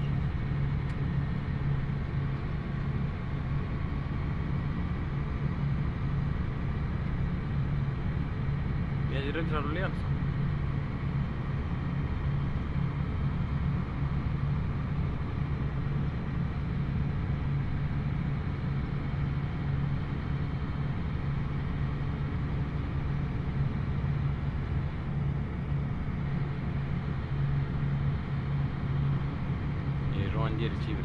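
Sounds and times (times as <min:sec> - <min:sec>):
tractor diesel engine drone: 0:00.0 - 0:31.0.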